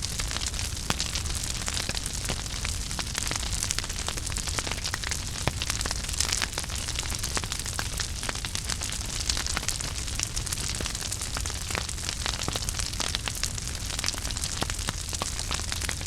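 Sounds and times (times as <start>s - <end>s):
wood fire burning: 0.0s - 16.0s.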